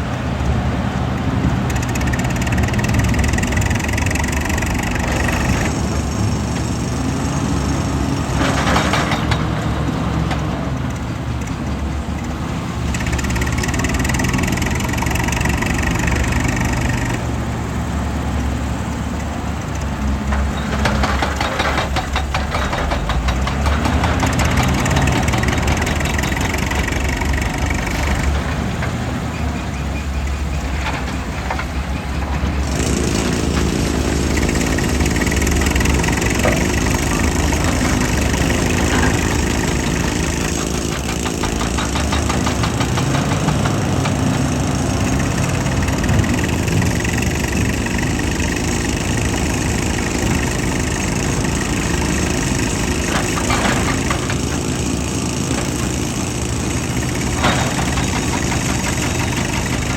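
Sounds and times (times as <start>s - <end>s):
heavy machine engine running: 0.0s - 59.9s
machine clatter: 0.1s - 7.0s, 8.2s - 18.2s, 18.8s - 59.9s.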